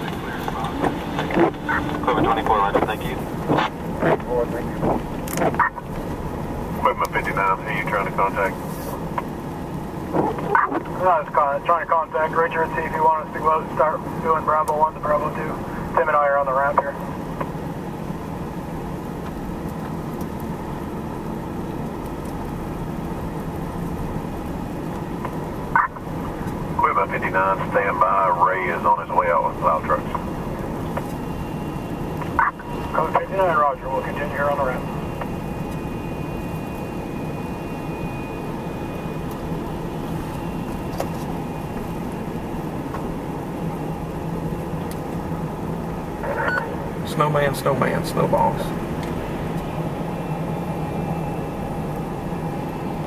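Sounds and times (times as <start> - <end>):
low engine rumble: 0.0 - 53.0.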